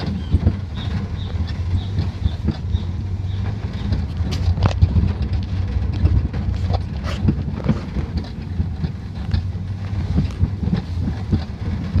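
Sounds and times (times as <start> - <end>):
truck bed knocks and rattles: 0.0 - 12.0
truck engine low rumble: 0.0 - 12.0.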